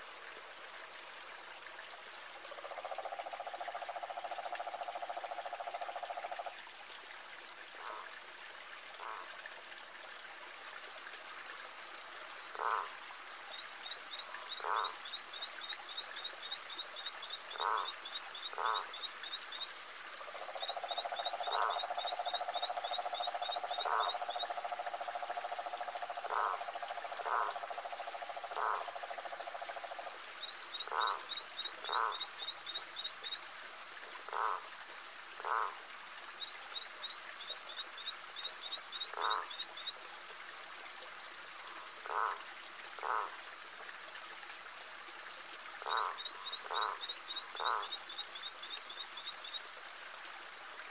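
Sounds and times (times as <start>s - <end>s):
faint steady hiss: 0.0s - 50.9s
frogs croaking: 0.6s - 6.9s, 7.7s - 50.9s.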